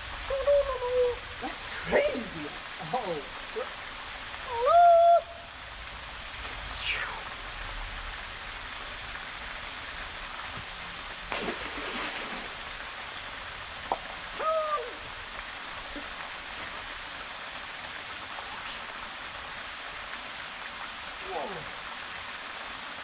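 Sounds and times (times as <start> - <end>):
waterfall rushing into pool: 0.0 - 23.0.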